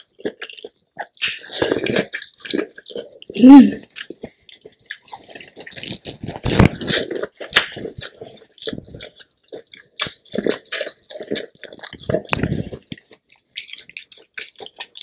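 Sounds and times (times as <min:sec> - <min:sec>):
person chewing corn: 0:00.0 - 0:15.0.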